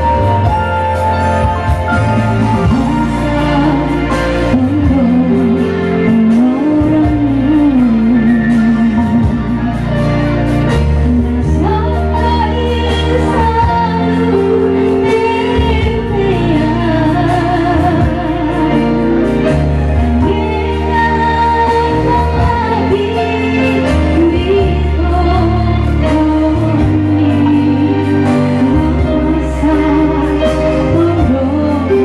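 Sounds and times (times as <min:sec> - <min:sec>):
electronic keyboard chords: 0:00.0 - 0:32.0
woman singing into microphone: 0:00.0 - 0:32.0.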